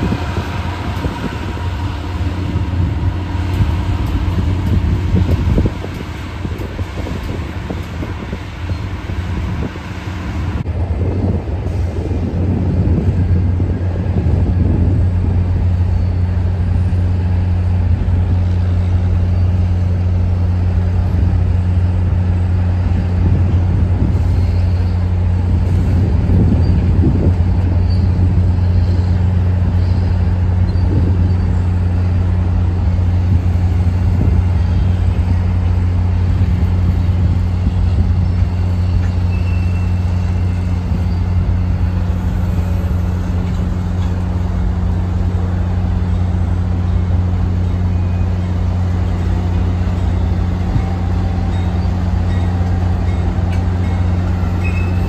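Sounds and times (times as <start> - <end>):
diesel locomotives droning: 0.0 - 55.0.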